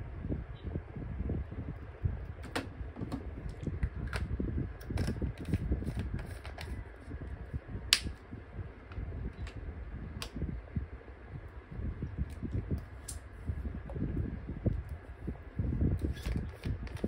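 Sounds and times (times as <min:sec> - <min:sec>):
low handling rumble: 0:00.0 - 0:17.0.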